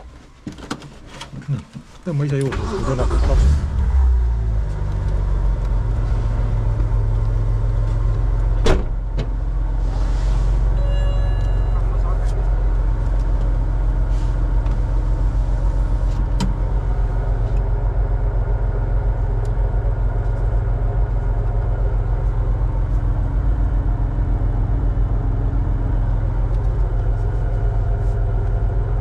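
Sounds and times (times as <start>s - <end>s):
race car engine idling: 3.6s - 9.8s, 11.5s - 29.0s.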